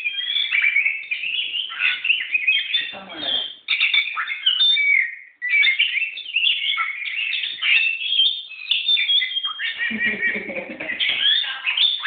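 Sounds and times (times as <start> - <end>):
bird singing whistled notes: 0.0 - 9.8, 11.0 - 12.0.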